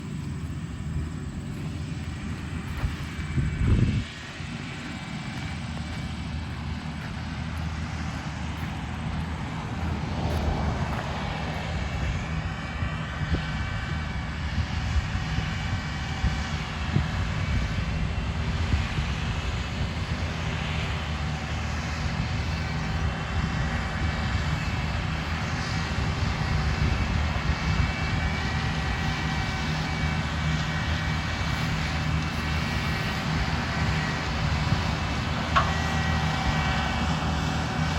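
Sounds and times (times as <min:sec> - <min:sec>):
deep engine drone: 0:00.0 - 0:37.9
high wavering whine: 0:00.0 - 0:37.9.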